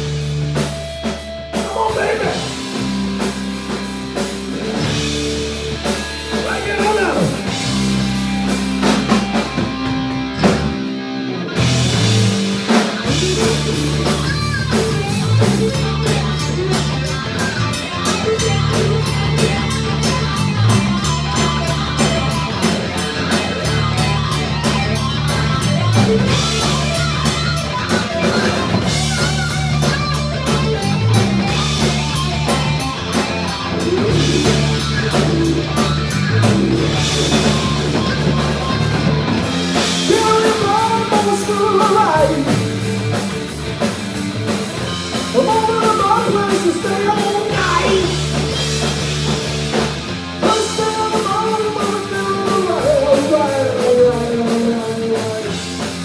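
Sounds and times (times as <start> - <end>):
driving bass line: 0.0 - 56.0
drum kit: 0.0 - 56.0
electric guitar: 0.0 - 56.0.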